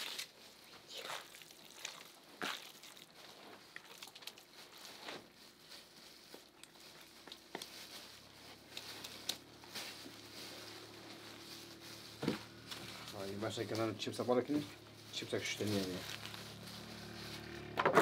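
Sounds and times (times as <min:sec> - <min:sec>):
small things being handled: 0:00.0 - 0:18.0.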